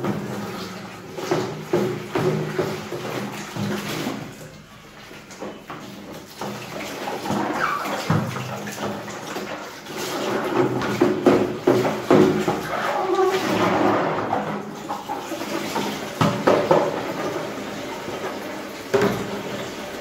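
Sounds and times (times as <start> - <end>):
water splashing in sink: 0.0 - 20.0.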